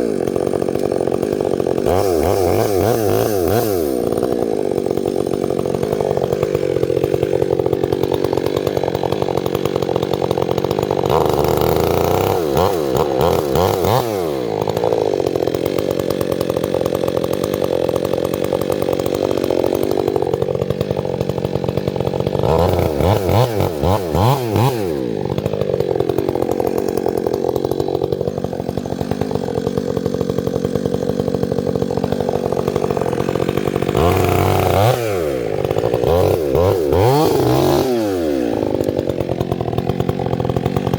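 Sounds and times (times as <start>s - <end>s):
chainsaw engine running: 0.0s - 40.9s.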